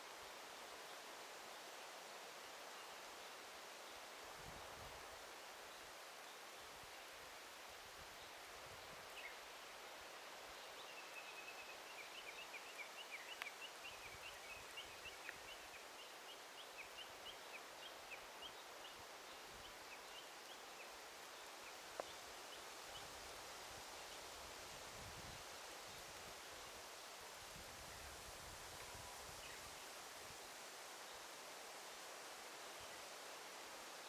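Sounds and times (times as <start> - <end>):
soft steady hiss: 0.0 - 34.0.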